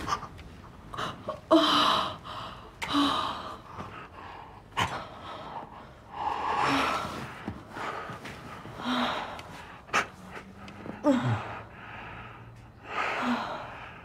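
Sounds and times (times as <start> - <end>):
soft moans: 0.0 - 14.0.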